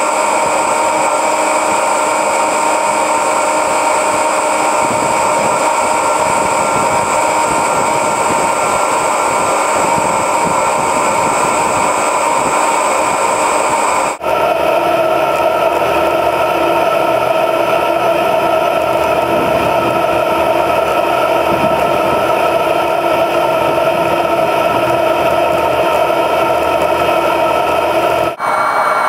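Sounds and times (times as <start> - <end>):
combine harvester droning: 0.0 - 29.0.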